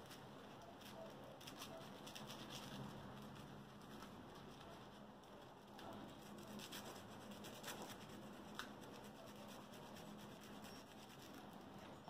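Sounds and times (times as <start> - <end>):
garlic scratching on toast: 0.0 - 11.8.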